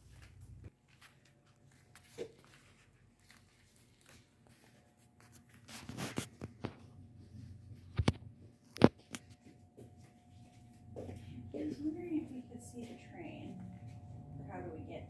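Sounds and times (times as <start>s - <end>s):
rustling and scraping handling noise: 0.0s - 14.3s.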